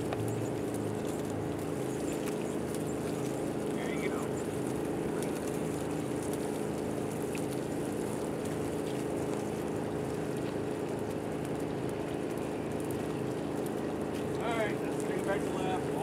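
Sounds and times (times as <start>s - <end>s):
motor running steadily: 0.0s - 16.0s.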